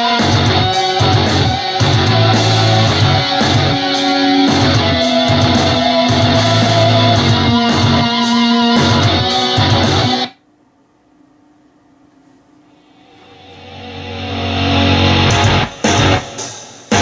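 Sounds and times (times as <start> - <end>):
rock music through speaker: 0.0 - 10.3, 13.0 - 17.0.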